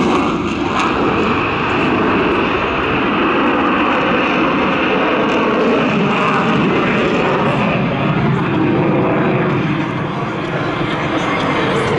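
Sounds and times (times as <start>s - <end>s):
jet engine roar: 0.0s - 11.9s.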